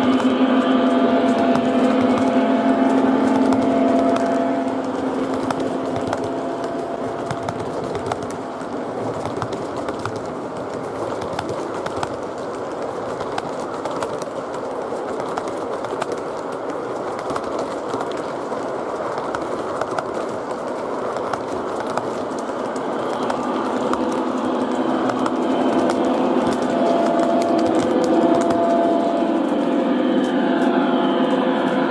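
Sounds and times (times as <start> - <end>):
model train wheels rumbling: 0.0 - 31.9
clicks over track joints: 1.2 - 29.2.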